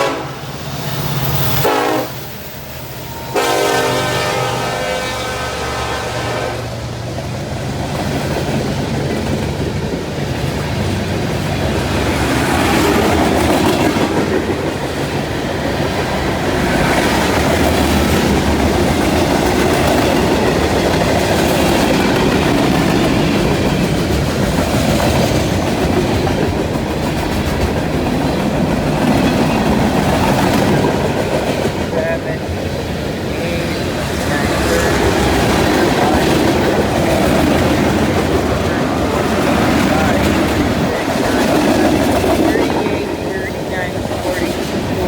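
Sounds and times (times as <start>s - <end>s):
freight train rumbling on rails: 0.0s - 45.0s
clickety-clack over rail joints: 7.0s - 45.0s.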